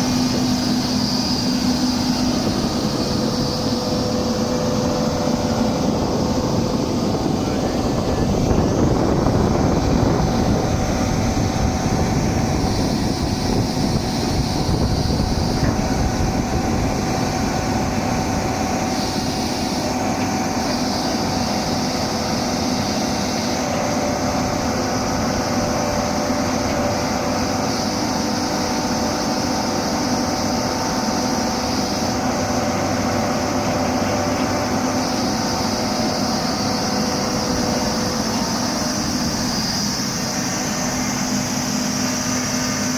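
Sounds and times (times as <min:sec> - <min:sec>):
excavator diesel engine running: 0:00.0 - 0:42.9
steady whining tones: 0:00.0 - 0:42.9.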